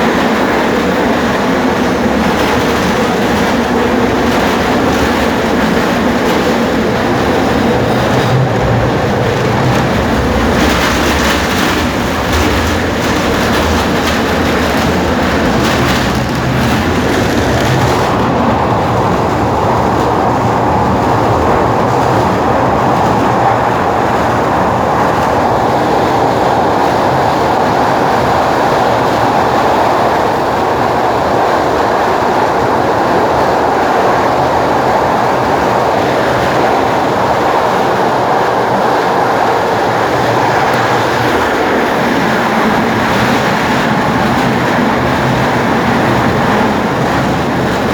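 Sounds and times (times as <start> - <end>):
tram wheels rumbling: 0.0 - 47.9.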